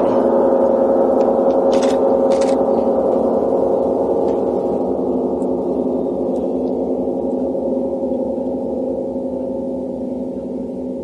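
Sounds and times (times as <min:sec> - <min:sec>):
gong ringing: 0:00.0 - 0:11.0.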